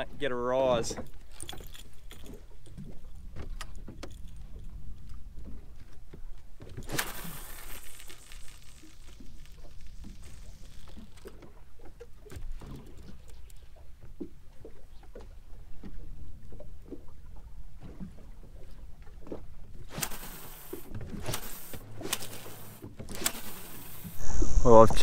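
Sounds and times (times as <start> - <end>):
waves lapping against hull: 0.0 - 25.0.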